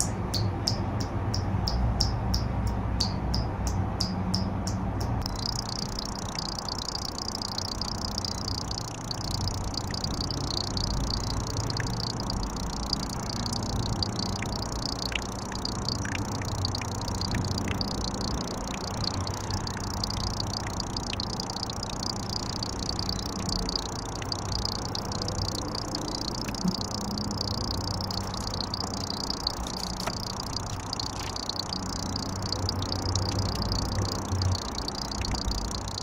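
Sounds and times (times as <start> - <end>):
constant high chirping: 0.0 - 36.0
water dripping: 0.0 - 36.0
low hum: 4.7 - 36.0.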